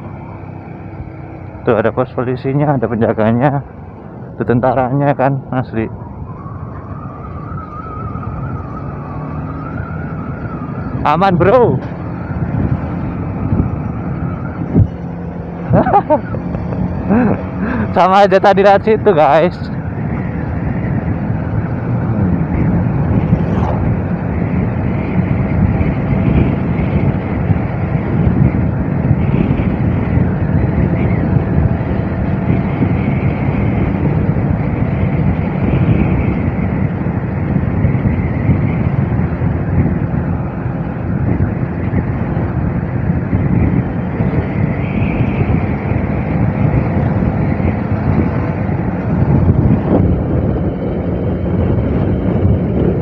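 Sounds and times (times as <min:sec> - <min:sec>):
wind rushing on microphone: 0:00.0 - 0:53.0.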